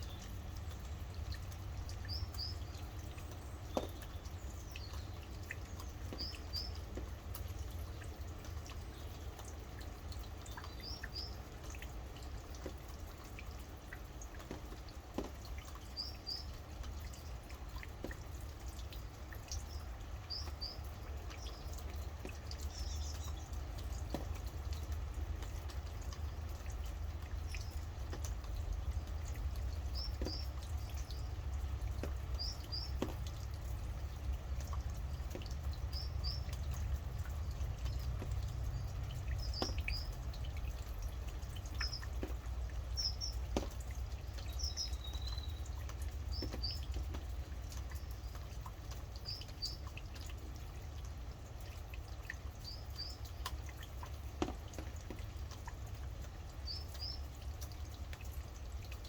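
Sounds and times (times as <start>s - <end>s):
rain dripping: 0.0s - 59.0s.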